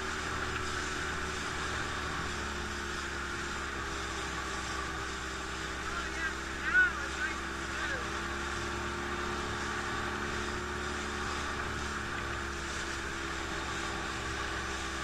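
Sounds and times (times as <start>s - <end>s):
motorboat engine running: 0.0s - 15.0s
water rushing around hull: 0.0s - 15.0s.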